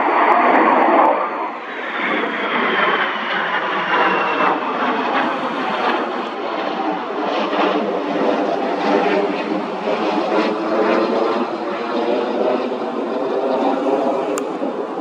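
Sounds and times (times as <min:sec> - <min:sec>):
jet fighter passing overhead: 0:00.0 - 0:15.0.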